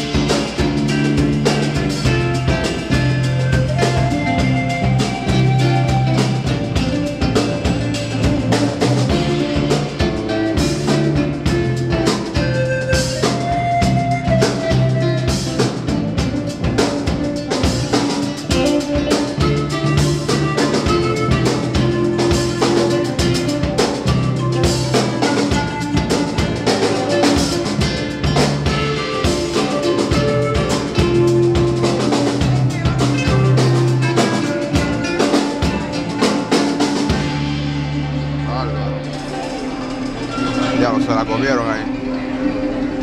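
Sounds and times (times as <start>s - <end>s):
drum kit beat: 0.0s - 43.0s
electric bass line: 0.0s - 43.0s
panpipe melody: 0.0s - 43.0s.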